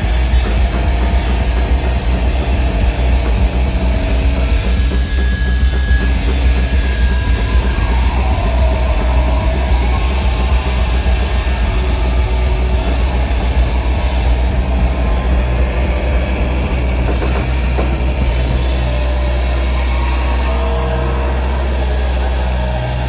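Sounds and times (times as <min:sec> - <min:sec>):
deep bass drone: 0:00.0 - 0:23.0
electric guitar feedback: 0:00.0 - 0:23.0.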